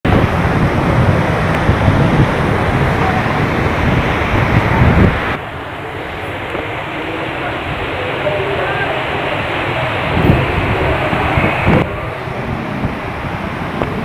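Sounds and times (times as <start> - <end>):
heavy rain rushing: 0.0 - 14.0
wind buffeting microphone: 0.0 - 14.0.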